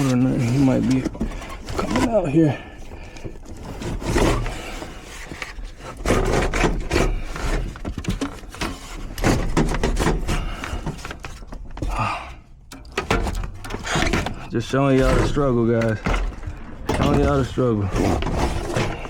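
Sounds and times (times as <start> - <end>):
blower motor scraping and knocking: 0.0 - 12.0, 13.0 - 19.0.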